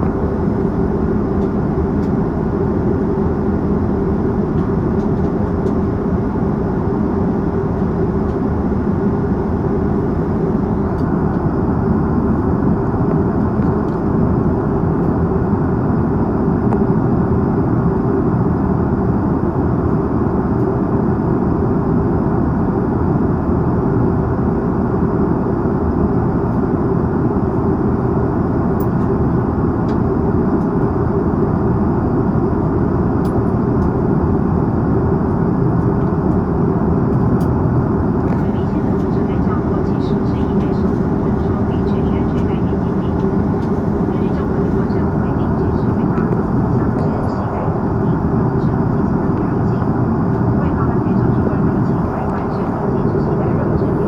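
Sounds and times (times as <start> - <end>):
airplane cabin engine noise: 0.0 - 54.0.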